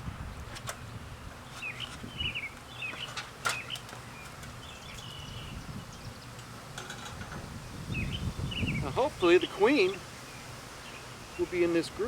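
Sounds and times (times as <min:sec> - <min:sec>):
birds chirping: 0:01.4 - 0:12.0.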